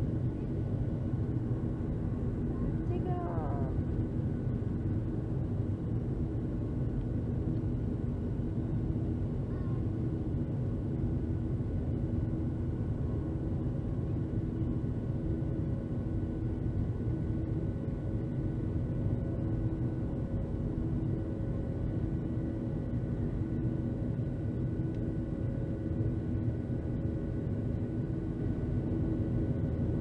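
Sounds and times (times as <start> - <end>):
constant humming tones: 0.0 - 30.0
jet engines rumbling in cabin: 0.0 - 30.0.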